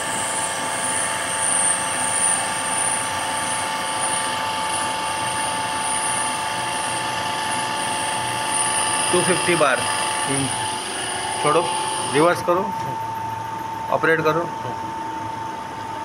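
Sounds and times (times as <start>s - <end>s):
hydraulic pump humming with whine: 0.0s - 16.0s.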